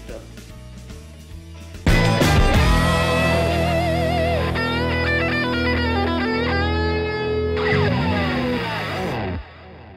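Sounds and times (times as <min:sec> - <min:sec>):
rock music with guitar: 0:00.0 - 0:09.9.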